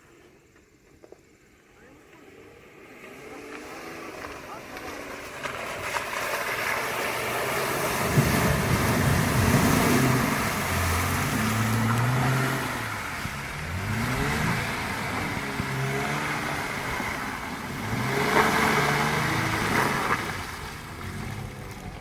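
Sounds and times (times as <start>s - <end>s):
engine revving: 2.0s - 22.0s.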